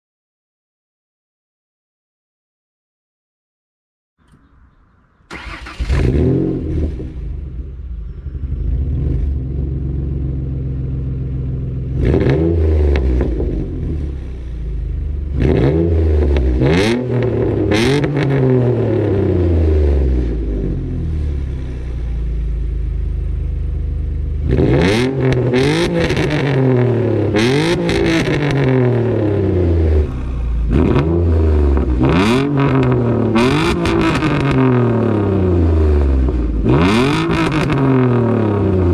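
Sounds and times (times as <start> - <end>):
car engine starting: 4.2 - 38.9
engine idling and revving: 4.3 - 38.9.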